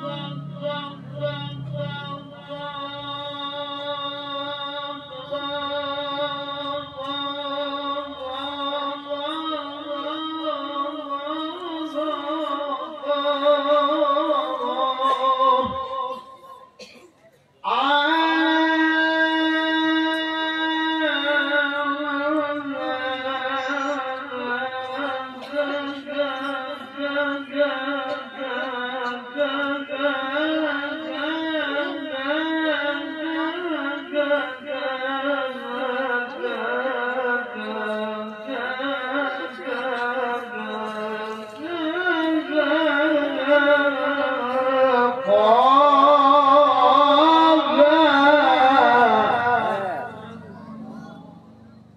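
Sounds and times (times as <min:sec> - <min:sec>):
man reciting in melismatic voice: 0:00.0 - 0:17.0, 0:17.6 - 0:51.6.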